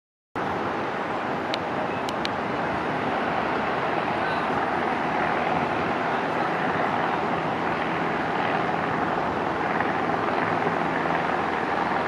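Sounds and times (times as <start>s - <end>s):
distant propeller plane engine drone: 0.4s - 12.0s.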